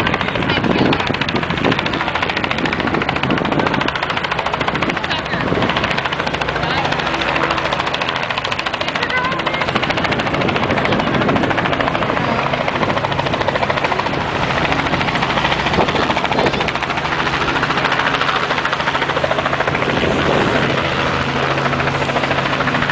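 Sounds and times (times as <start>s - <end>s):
helicopter engine hum: 0.0s - 22.9s
helicopter rotor chopping: 0.0s - 22.9s.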